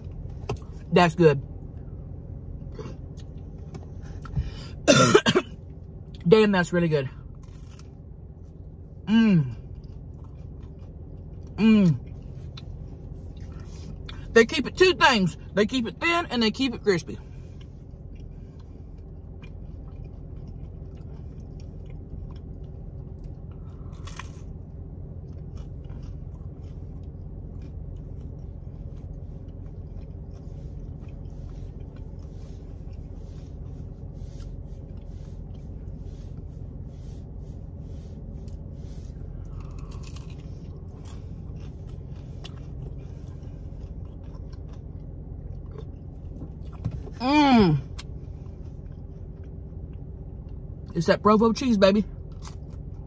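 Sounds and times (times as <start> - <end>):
person chewing crispy pizza: 0.0 - 4.8, 5.6 - 14.9, 15.6 - 51.0, 52.2 - 53.0
steady low hum: 0.0 - 53.0.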